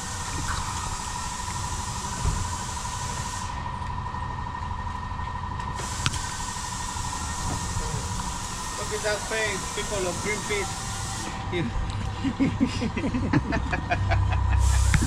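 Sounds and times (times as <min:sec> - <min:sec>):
mechanical hum and whine: 0:00.0 - 0:15.0.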